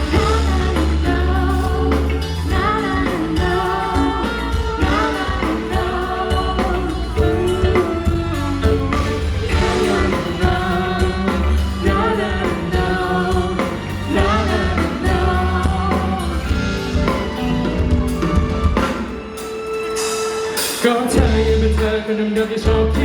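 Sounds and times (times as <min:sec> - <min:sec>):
person singing: 0:00.0 - 0:18.9, 0:20.0 - 0:23.0
live pop band music: 0:00.0 - 0:23.0.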